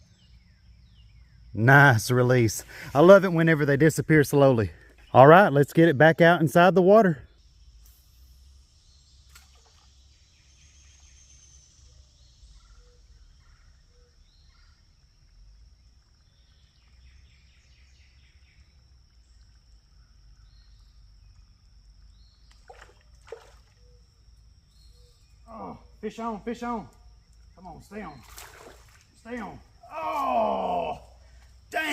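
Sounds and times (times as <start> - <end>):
birds calling: 0.0 - 31.9
high insect drone: 0.0 - 31.9.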